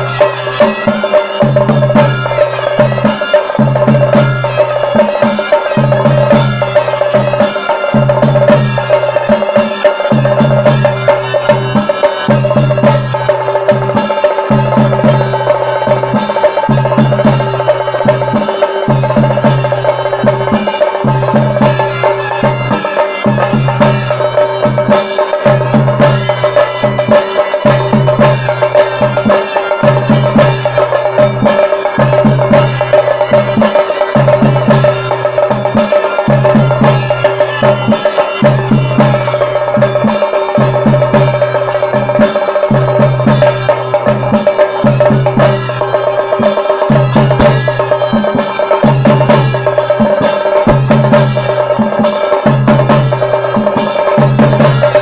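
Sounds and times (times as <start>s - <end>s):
drum ensemble playing fast rolls: 0.0s - 55.0s.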